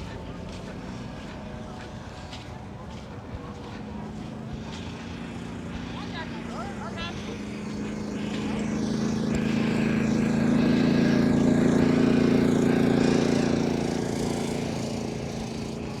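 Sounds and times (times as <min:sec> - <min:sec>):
engine passing by: 0:00.0 - 0:16.0.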